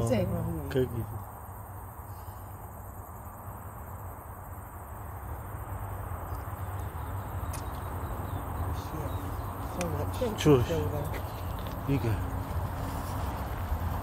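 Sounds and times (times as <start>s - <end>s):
insect drone: 0.0s - 14.0s.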